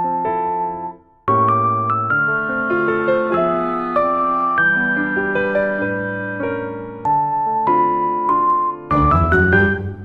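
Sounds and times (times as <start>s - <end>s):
gentle keyboard music: 0.0s - 10.0s.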